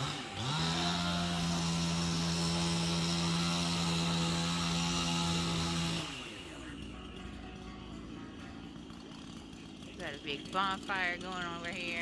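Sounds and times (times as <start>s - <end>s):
small engine running at high speed: 0.0s - 12.0s.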